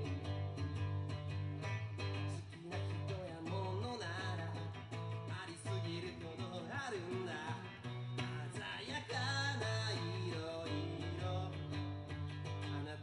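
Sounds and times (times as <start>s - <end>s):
bass: 0.0s - 13.0s
person singing: 0.0s - 13.0s
semi-acoustic guitar: 0.0s - 13.0s.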